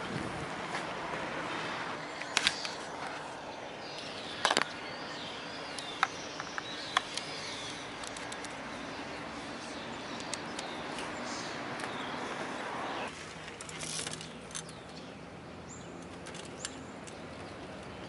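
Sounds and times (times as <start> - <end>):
outdoor background hiss: 0.0 - 18.0
birds chirping: 1.4 - 18.0.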